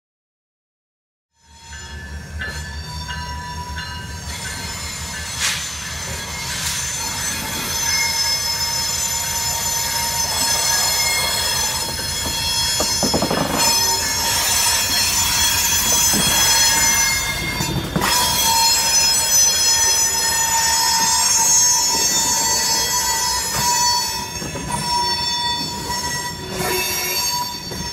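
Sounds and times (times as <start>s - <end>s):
diesel locomotive engine rumbling: 1.4s - 27.9s
wheels squealing on rail: 1.4s - 27.9s.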